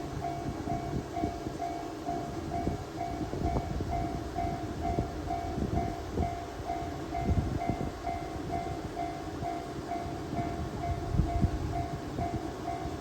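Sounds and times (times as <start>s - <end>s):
diesel railcar rumbling past: 0.0s - 13.0s
level-crossing warning bell: 0.0s - 13.0s.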